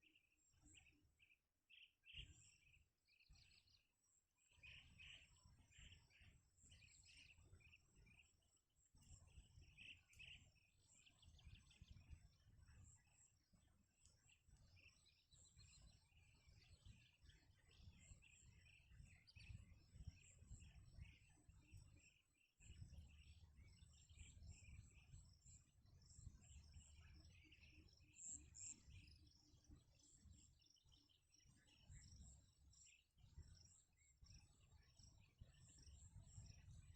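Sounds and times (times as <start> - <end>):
faint high chirps: 0.0 - 36.9.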